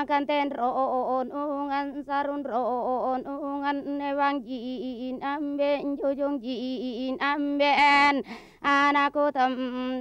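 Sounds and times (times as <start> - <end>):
woman chanting: 0.0 - 10.0.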